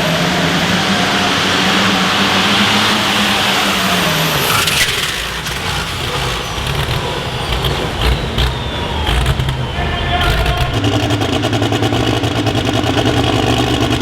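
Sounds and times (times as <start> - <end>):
vehicle engine at high revs: 0.0 - 14.0.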